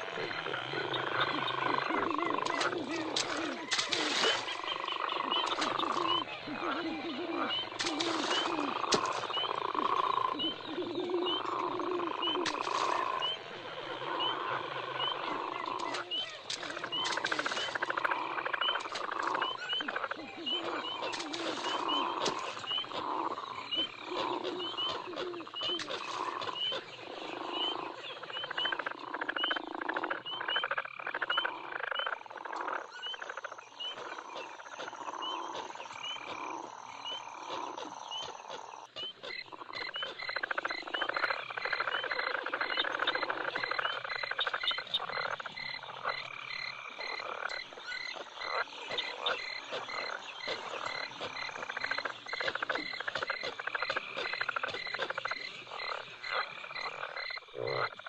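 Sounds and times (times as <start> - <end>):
frogs croaking: 0.0 - 58.0.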